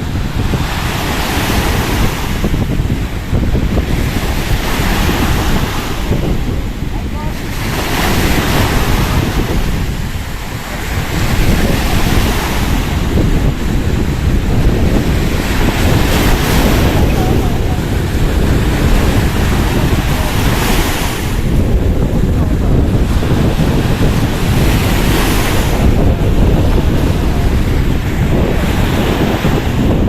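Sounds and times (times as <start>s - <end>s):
lake water rushing: 0.0s - 30.0s
wind buffeting microphone: 0.0s - 30.0s.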